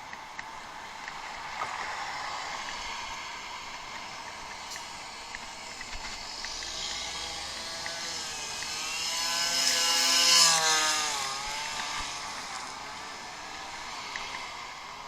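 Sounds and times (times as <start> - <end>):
motor vehicle passing by: 1.3 - 15.0.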